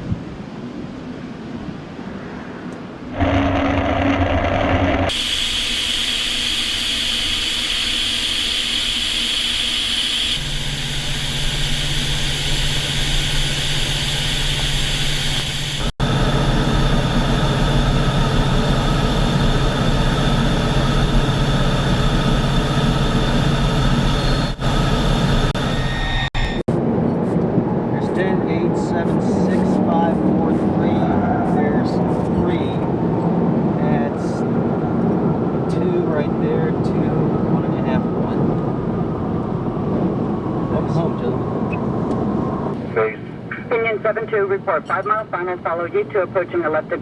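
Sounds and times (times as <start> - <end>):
jet engine whine: 1.4 - 47.0
low hum: 2.0 - 44.9.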